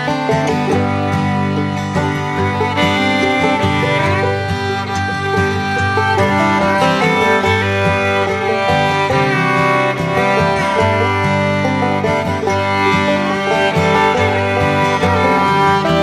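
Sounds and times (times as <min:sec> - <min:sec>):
bluegrass tune with fiddle and guitar: 0:00.0 - 0:16.0.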